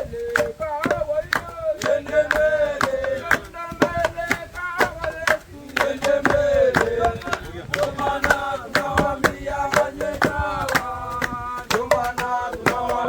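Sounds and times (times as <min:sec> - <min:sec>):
sharp rhythmic knocks: 0:00.0 - 0:13.0
voices chanting a song: 0:00.0 - 0:13.0.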